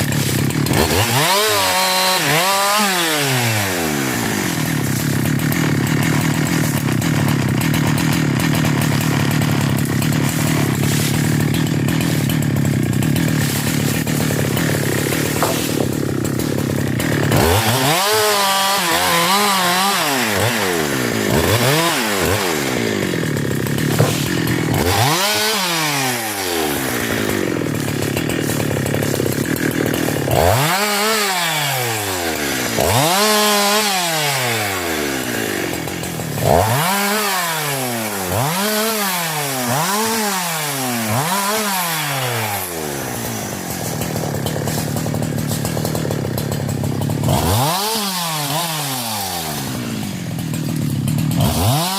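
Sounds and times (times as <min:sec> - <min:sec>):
chainsaw engine revving: 0:00.0 - 0:51.9.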